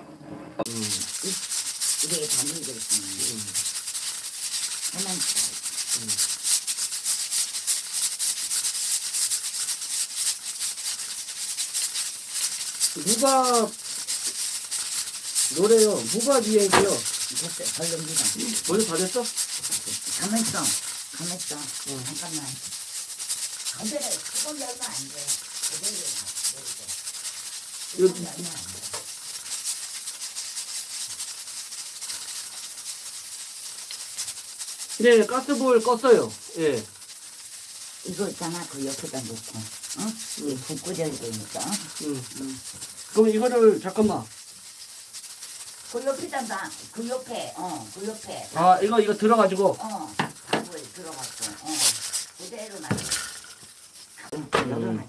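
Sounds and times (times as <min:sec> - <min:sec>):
steam hissing: 0:00.2 - 0:54.9
pressure cooker valve rattling: 0:00.7 - 0:30.2, 0:30.9 - 0:54.2.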